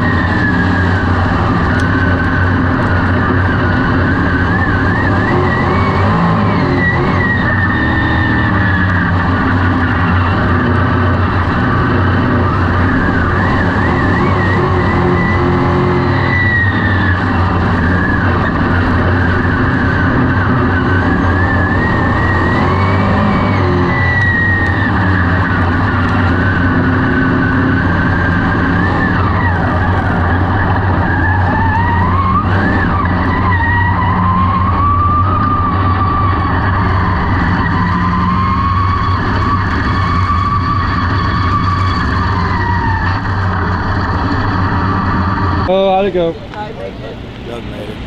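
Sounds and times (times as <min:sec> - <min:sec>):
race car engine running hard: 0:00.0 - 0:48.0.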